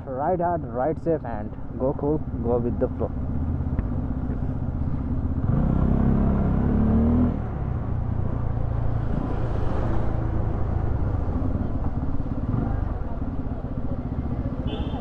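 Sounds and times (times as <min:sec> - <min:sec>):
motorcycle engine revving: 0:02.2 - 0:15.0.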